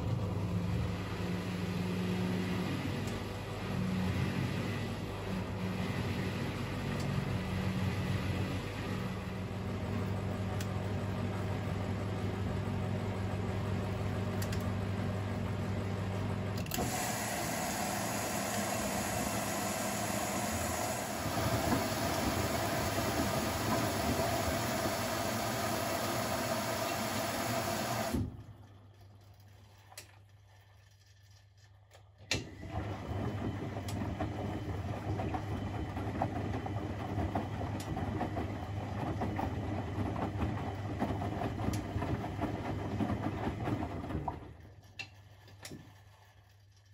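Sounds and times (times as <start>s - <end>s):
washing machine motor humming: 0.0s - 30.1s, 32.2s - 46.4s.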